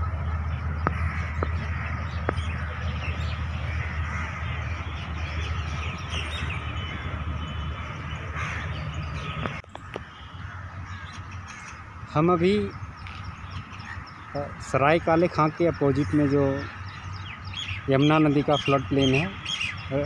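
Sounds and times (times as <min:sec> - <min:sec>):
steady low rumble: 0:00.0 - 0:18.5
birds calling: 0:00.0 - 0:20.0.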